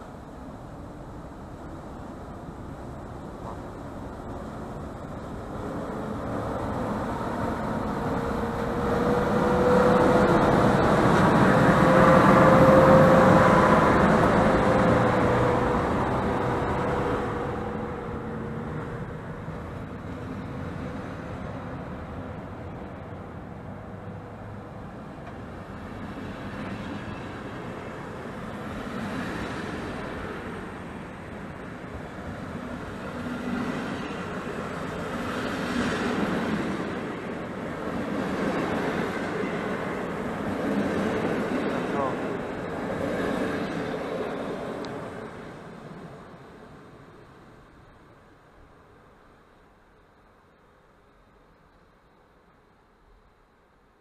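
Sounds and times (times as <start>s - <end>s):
train coaches rumbling: 0.0s - 48.1s
electric locomotive whine: 0.0s - 54.0s.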